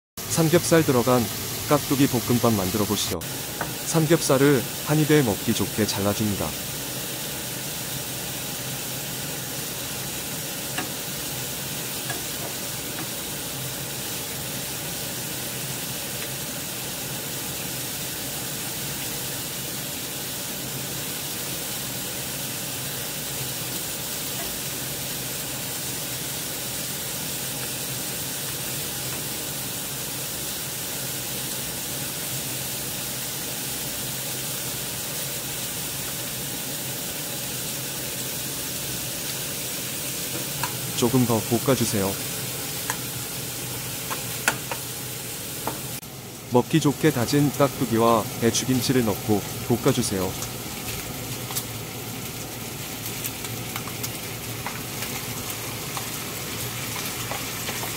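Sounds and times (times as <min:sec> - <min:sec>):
meat sizzling in a pan: 0:00.2 - 0:57.9.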